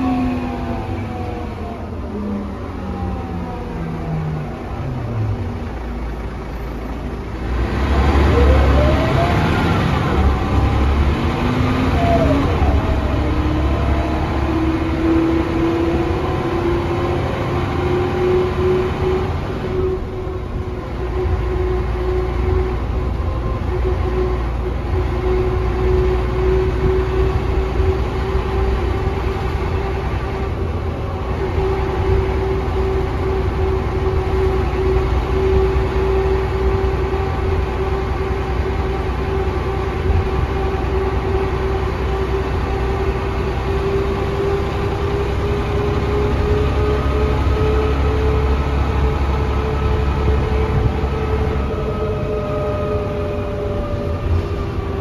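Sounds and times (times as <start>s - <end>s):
engine rumble: 0.0s - 55.0s
road noise: 0.0s - 55.0s.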